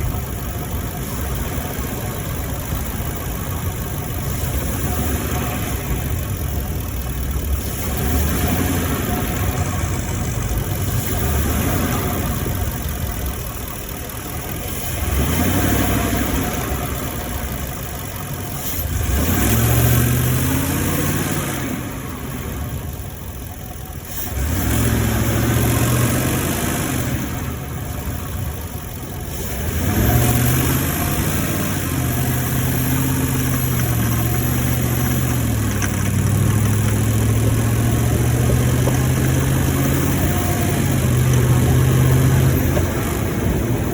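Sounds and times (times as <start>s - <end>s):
truck engine running while driven: 0.0s - 43.9s.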